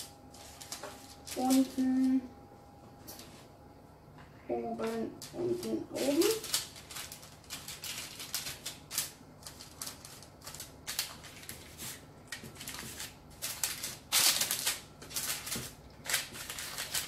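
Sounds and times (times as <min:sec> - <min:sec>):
baking paper rustling under hands: 0:00.0 - 0:02.3, 0:04.5 - 0:17.0.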